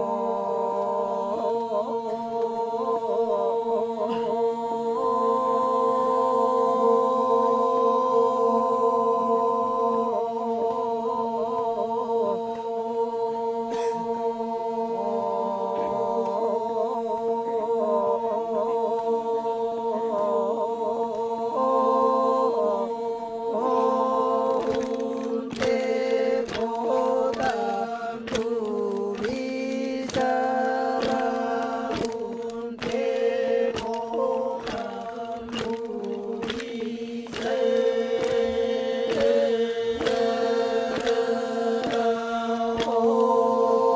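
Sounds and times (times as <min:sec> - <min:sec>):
men chanting unaccompanied: 0:00.0 - 0:43.9.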